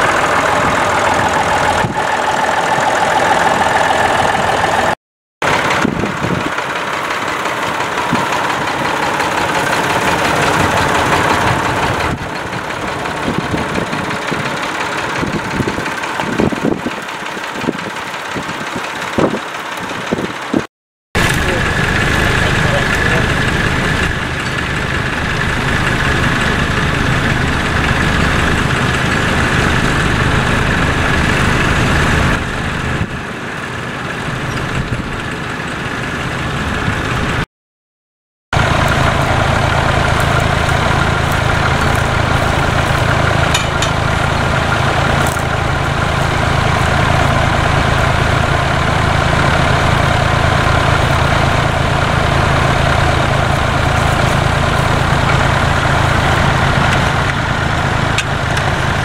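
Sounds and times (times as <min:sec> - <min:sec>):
tractor engine idling: 0:00.0 - 0:37.5, 0:38.6 - 0:59.0
tractor engine running: 0:00.0 - 0:37.5, 0:38.5 - 0:59.0.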